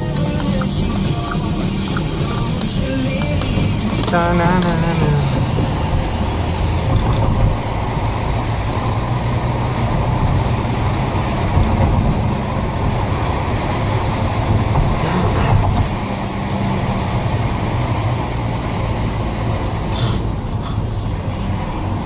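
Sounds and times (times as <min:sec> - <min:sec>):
diesel car engine running: 0:00.0 - 0:22.0
steady rushing noise: 0:00.0 - 0:22.0.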